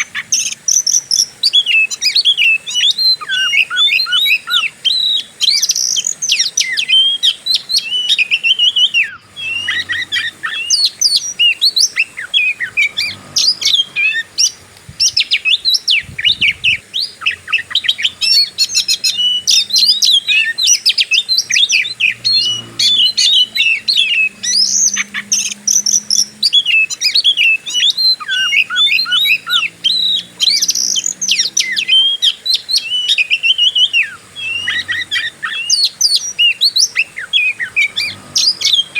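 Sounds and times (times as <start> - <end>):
bird singing rapid whistles: 0.0 - 38.9.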